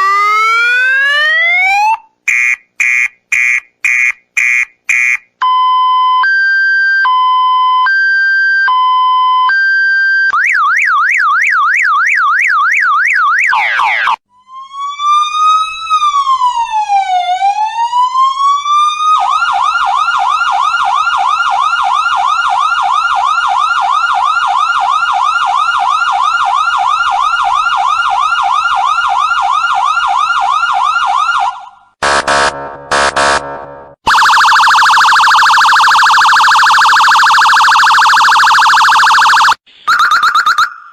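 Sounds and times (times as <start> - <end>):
emergency vehicle siren: 0.0 - 2.0, 5.4 - 40.9.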